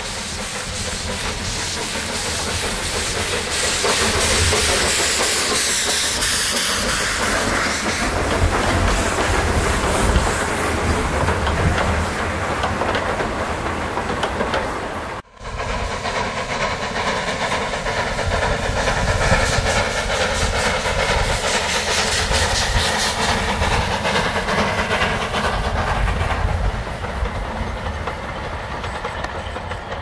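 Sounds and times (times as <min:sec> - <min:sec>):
steam train running past: 0:00.0 - 0:30.0.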